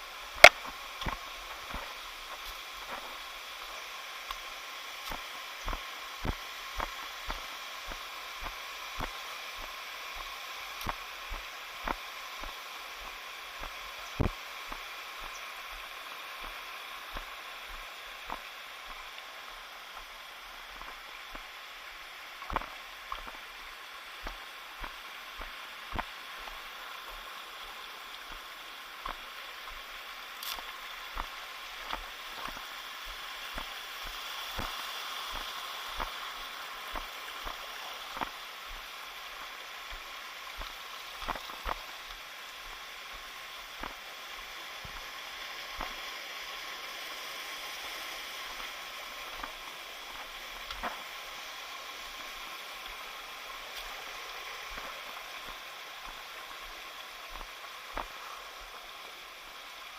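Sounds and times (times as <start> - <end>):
running water hissing: 0.0 - 59.9.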